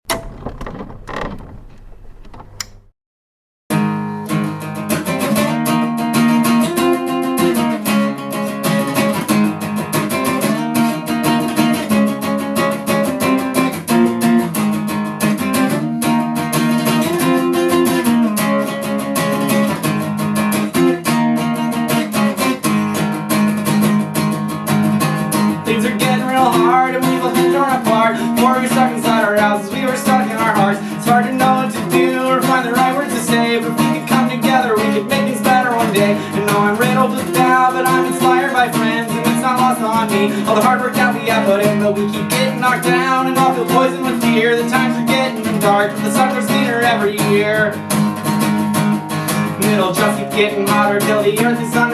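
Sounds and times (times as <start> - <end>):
strummed acoustic guitar chords: 3.9 - 51.9.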